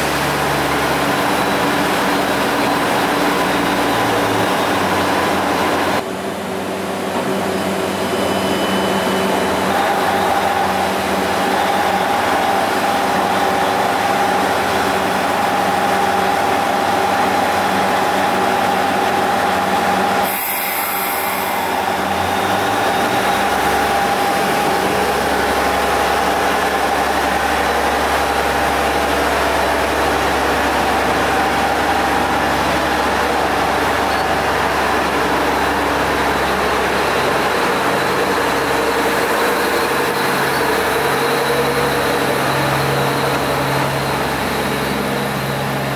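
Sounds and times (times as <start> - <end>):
deep rumble of train pulling away: 0.0 - 45.9
diesel train engine running: 0.0 - 45.9.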